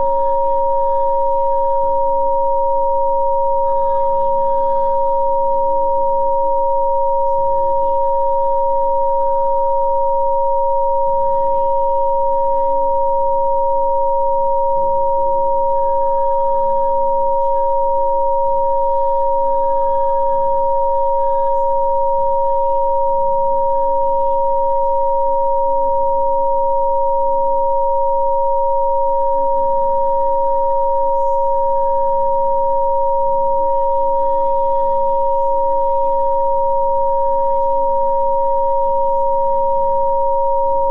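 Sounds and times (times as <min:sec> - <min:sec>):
steady electronic sine tones: 0:00.0 - 0:40.9.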